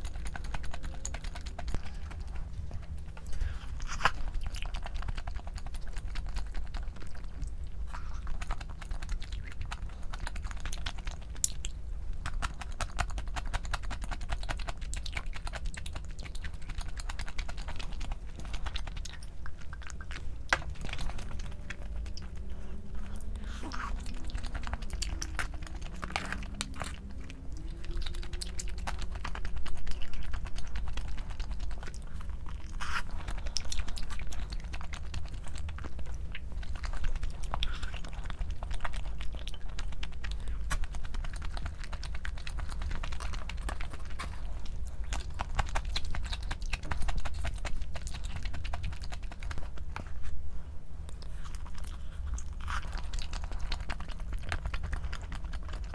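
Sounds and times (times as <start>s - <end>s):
person chewing and crunching food: 0.0s - 50.4s, 51.0s - 55.9s.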